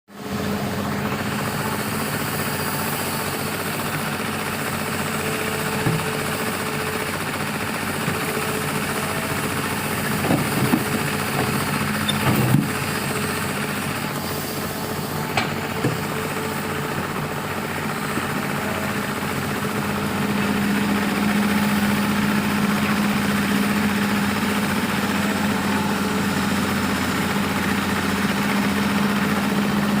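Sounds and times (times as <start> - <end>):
diesel engine running: 0.1 - 30.0.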